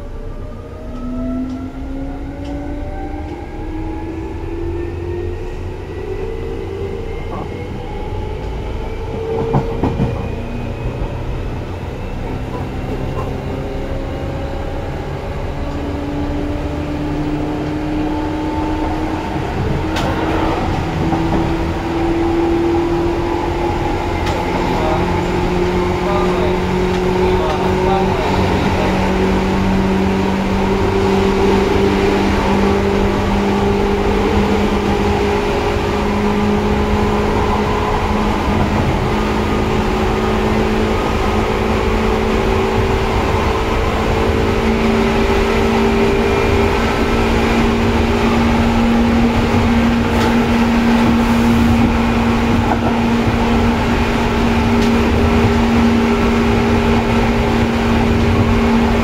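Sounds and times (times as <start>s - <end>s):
rumble of wheels on rail: 0.0s - 59.0s.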